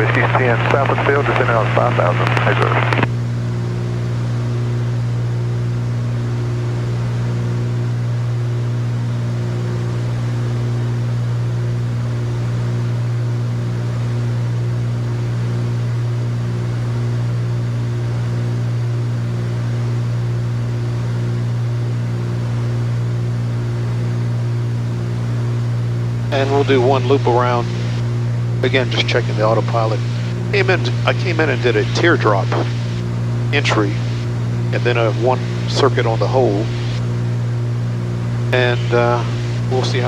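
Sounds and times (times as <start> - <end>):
propeller engines droning: 0.0 - 13.8, 19.2 - 40.0.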